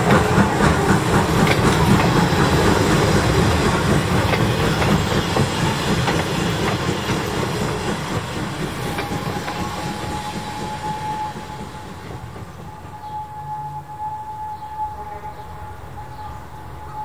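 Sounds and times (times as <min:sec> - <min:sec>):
rail clicks: 0:00.0 - 0:14.0
train wheels rumbling on rails: 0:00.0 - 0:17.0.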